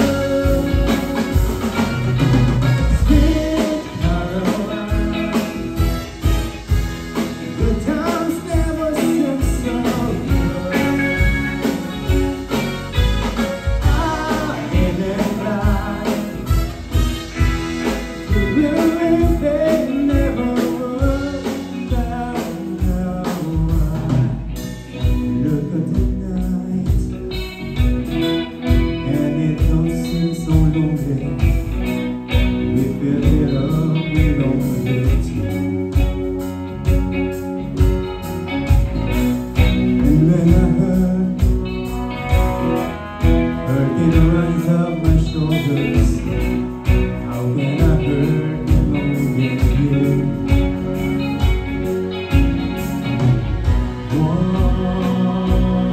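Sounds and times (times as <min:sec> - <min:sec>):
man singing lead vocal: 0:00.0 - 0:06.0, 0:07.5 - 0:12.5, 0:13.6 - 0:27.6, 0:28.4 - 0:36.6, 0:39.6 - 0:52.0, 0:52.6 - 0:55.9
bass guitar: 0:00.0 - 0:55.9
drum kit beat: 0:00.0 - 0:55.9
electric guitar: 0:00.0 - 0:55.9
keyboard: 0:00.0 - 0:55.9.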